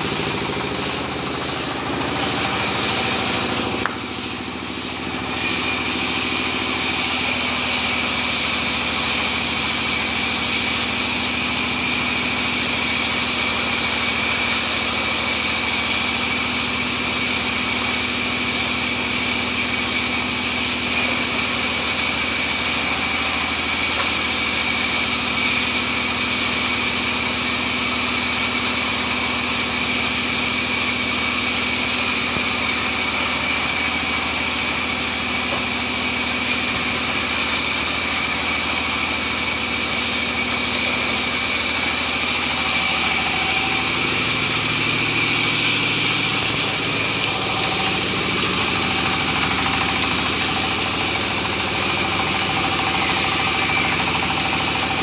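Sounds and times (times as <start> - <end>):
band saw motor hum: 0.0 - 55.0
high whine of saw cutting: 0.0 - 55.0.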